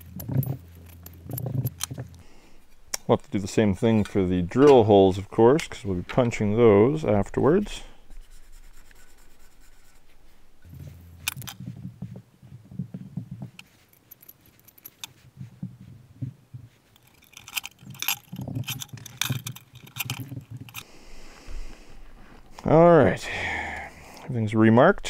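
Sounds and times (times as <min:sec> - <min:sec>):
metal clinks and scrapes: 0:00.0 - 0:20.9.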